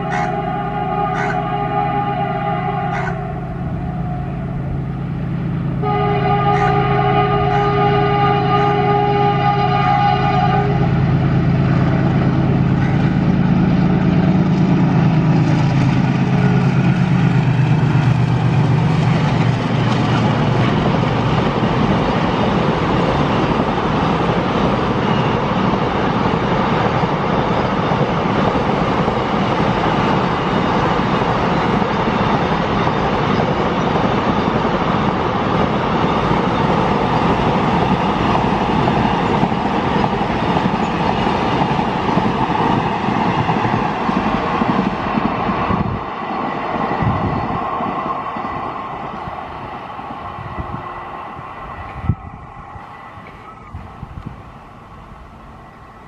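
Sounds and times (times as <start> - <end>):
freight wagons rumbling on rails: 0.0 - 56.0
locomotive engine drone: 0.0 - 56.0.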